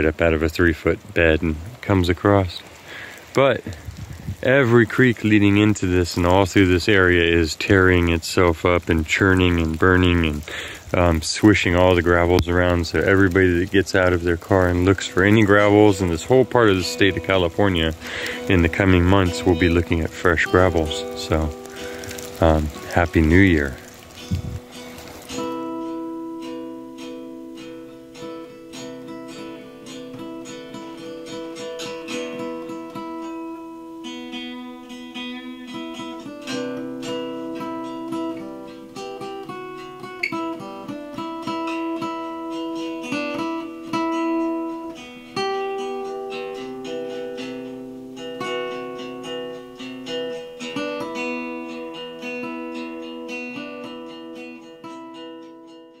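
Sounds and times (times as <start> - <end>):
acoustic guitar plucked notes: 4.4 - 56.0.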